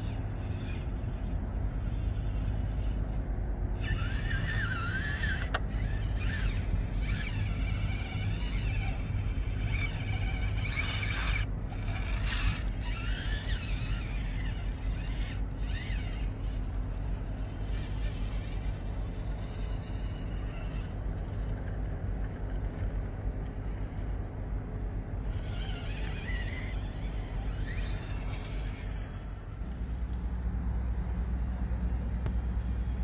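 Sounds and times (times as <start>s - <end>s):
toy car motor whining: 0.0s - 30.2s, 30.8s - 33.0s.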